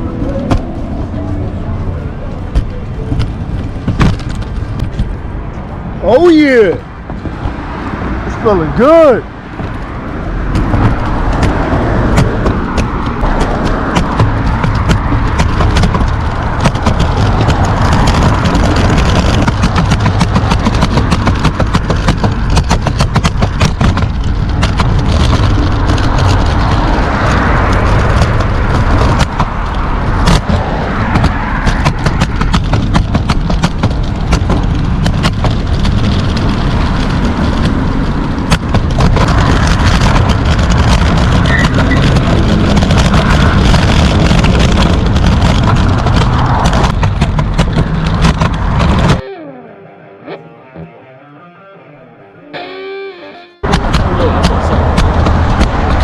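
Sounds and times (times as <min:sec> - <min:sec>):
wheels clicking on pavement: 0:00.0 - 0:49.2, 0:53.6 - 0:56.0
scooter wheels rolling: 0:00.0 - 0:49.4, 0:52.6 - 0:56.0.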